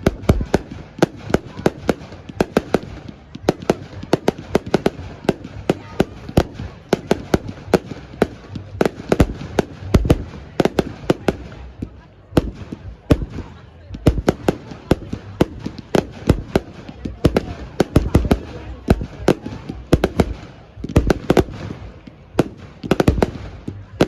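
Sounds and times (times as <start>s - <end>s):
deep fireworks booms: 0.0s - 24.0s
fireworks bangs and crackles: 0.0s - 24.0s.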